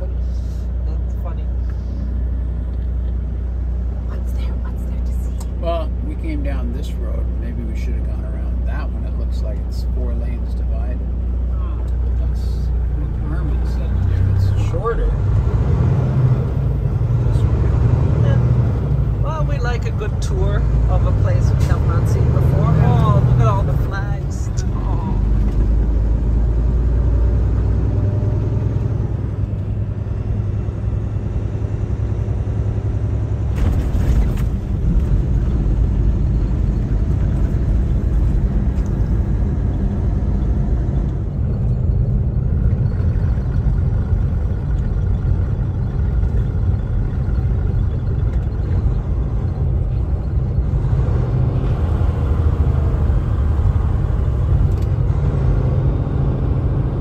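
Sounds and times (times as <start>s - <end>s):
truck engine and road rumble: 0.0s - 57.0s.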